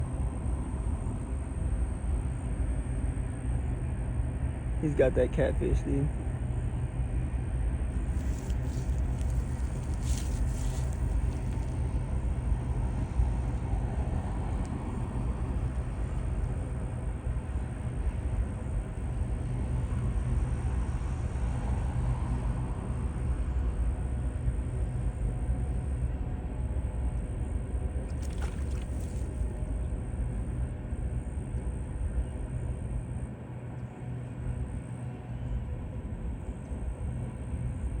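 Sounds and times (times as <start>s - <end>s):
steady low rumble: 0.0s - 33.1s.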